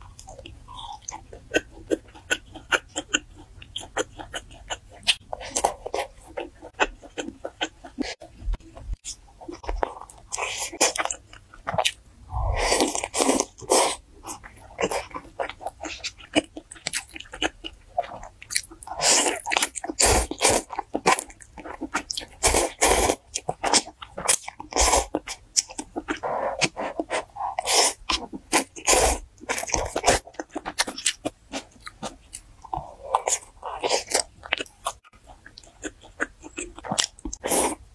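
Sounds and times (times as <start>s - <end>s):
person chewing and crunching food: 0.0s - 37.9s.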